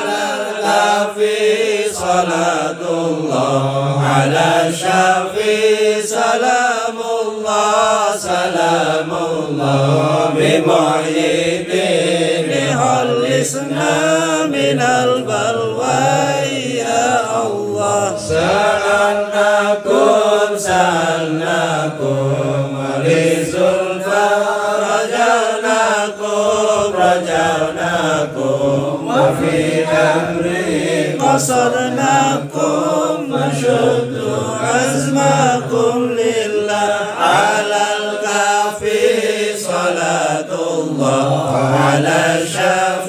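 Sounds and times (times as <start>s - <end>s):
men chanting together: 0.0s - 43.0s.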